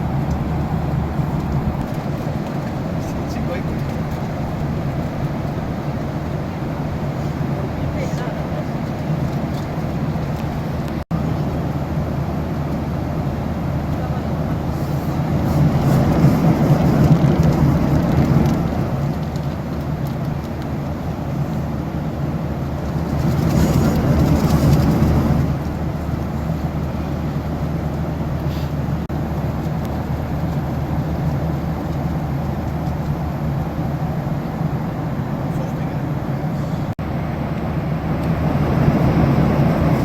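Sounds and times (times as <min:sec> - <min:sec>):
jet engine and airflow drone: 0:00.0 - 0:40.0.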